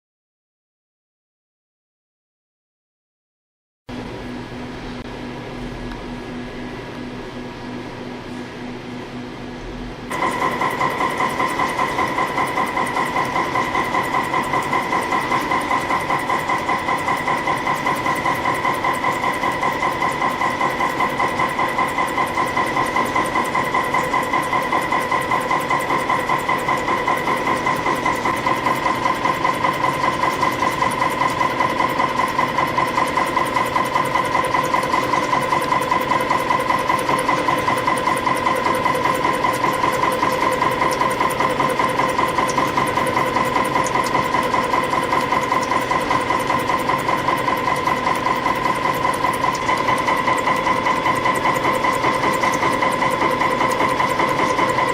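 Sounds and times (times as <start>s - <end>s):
high machine whine: 3.9s - 54.9s
spring coiling machine strokes: 10.1s - 54.9s.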